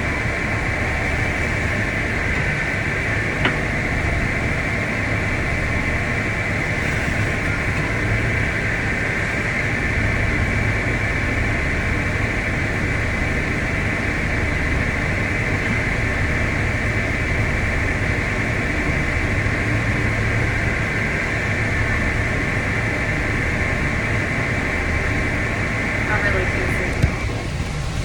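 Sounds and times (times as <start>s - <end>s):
tractor machinery droning: 0.0s - 28.0s.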